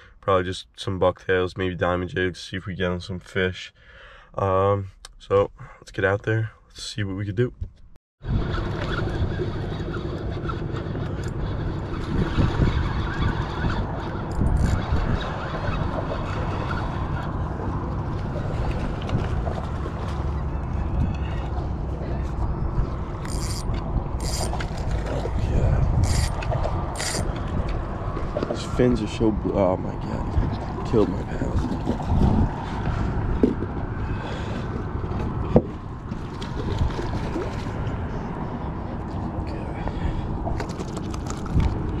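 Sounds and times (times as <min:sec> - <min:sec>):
wind buffeting microphone: 0:08.2 - 0:42.0.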